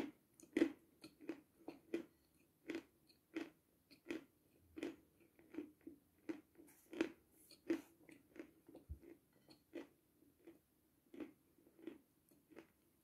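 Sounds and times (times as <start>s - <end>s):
crunchy chewing: 0.0s - 12.8s.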